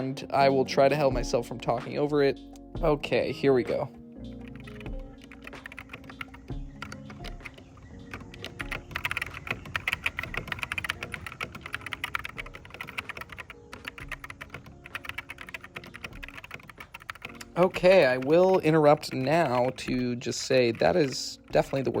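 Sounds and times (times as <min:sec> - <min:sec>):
mechanical keyboard typing: 0:04.3 - 0:22.0.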